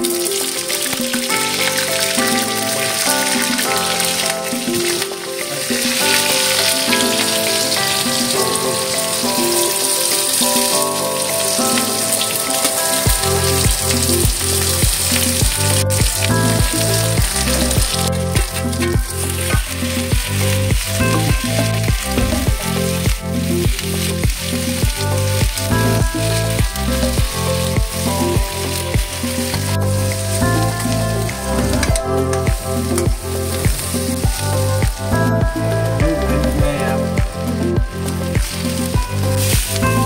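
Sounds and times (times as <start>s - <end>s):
background music with heavy beat: 0.0s - 40.0s
seeds sizzling in hot oil: 0.0s - 40.0s
vegetables frying while stirred: 0.0s - 40.0s.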